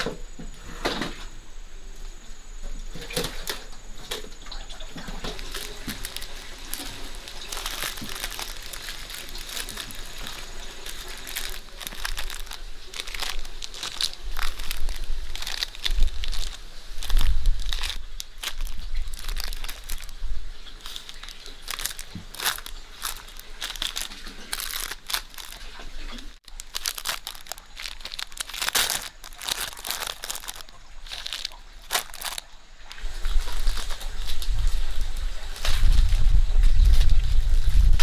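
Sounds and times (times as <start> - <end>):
crinkling and rustling: 2.6 - 38.0.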